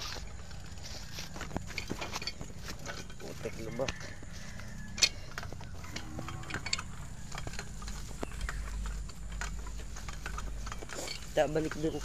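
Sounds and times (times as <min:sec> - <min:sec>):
bicycle rattling and clicking: 0:00.0 - 0:12.0.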